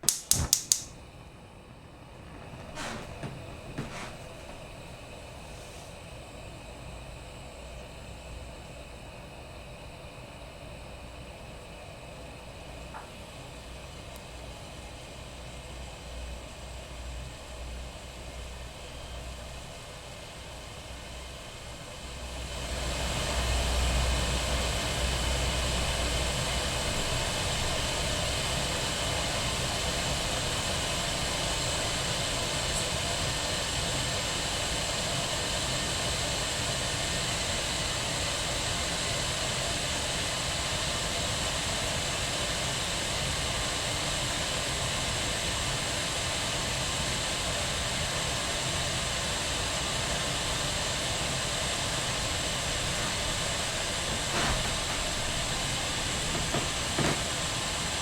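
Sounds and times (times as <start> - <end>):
kettle boiling: 0.0 - 58.0.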